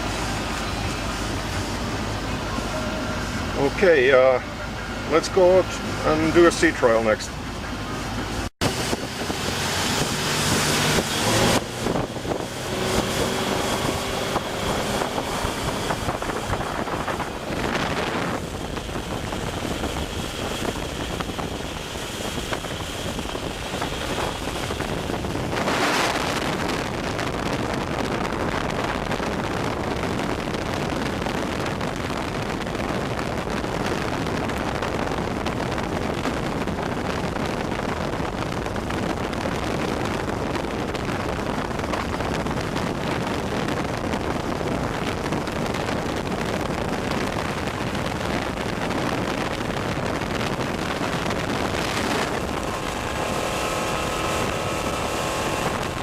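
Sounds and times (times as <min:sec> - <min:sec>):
boat engine running: 0:00.0 - 0:56.0
wind buffeting microphone: 0:00.0 - 0:56.0.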